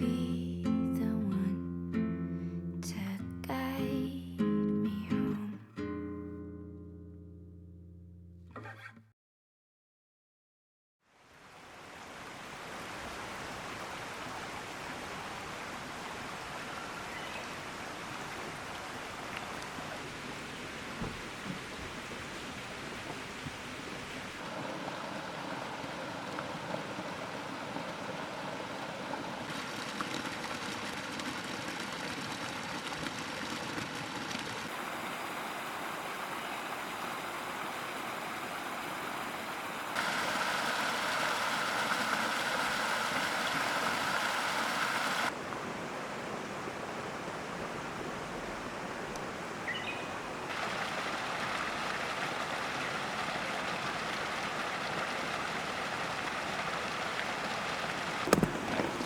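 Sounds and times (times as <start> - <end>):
running water rushing: 11.1 - 59.0.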